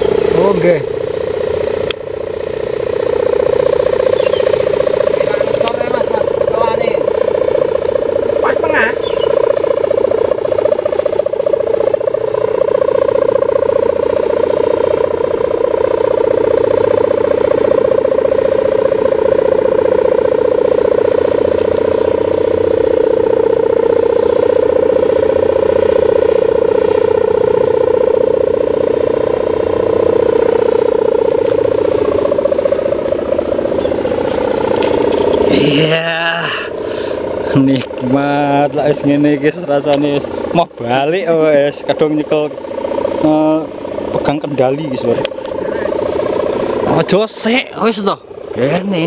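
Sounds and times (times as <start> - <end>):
kite hummer buzzing in wind: 0.0 - 49.0.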